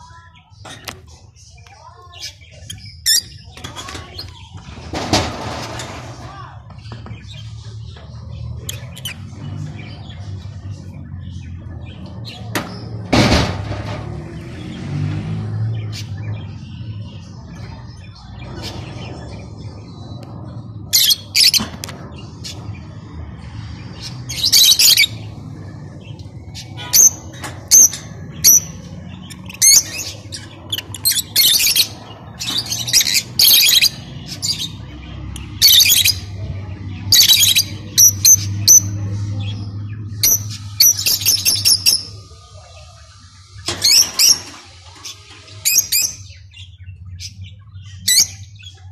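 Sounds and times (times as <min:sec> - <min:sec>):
birds chirping and squawking: 0:00.0 - 0:48.9.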